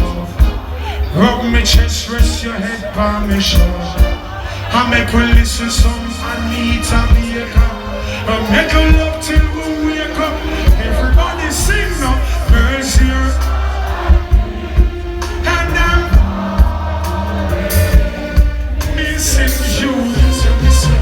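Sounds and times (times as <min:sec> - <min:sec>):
person singing: 0:00.0 - 0:21.0
reggae band playing: 0:00.0 - 0:21.0.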